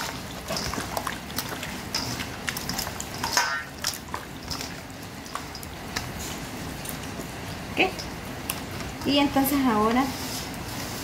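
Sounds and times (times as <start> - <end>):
hands squelching meat in marinade: 0.0 - 11.0.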